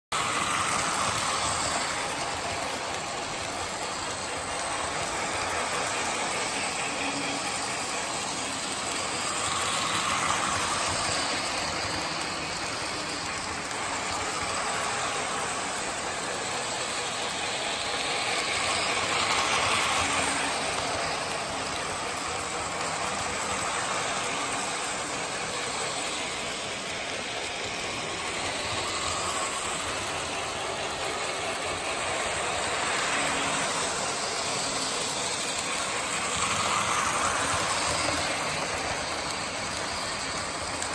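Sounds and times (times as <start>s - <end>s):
model trains rattling hum: 0.1s - 40.9s.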